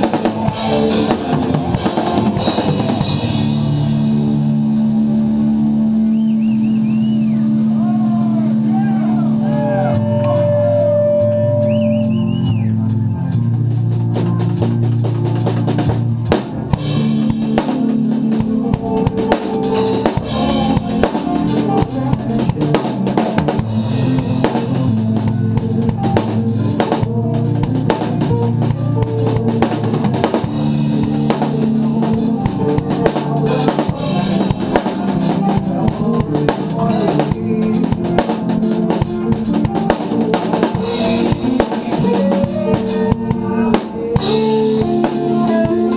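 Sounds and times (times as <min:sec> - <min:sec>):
drum kit played hard: 0:00.0 - 0:45.9
metal guitar and bass: 0:00.0 - 0:45.9.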